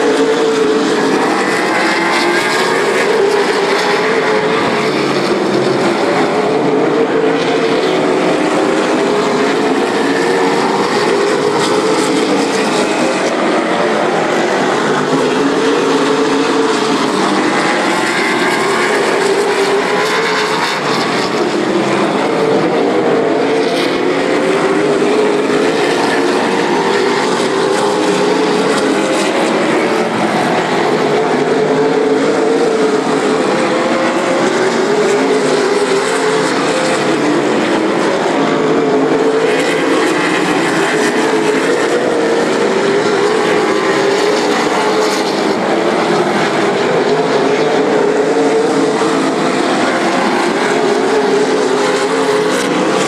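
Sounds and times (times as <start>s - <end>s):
race car engines droning: 0.0s - 53.0s.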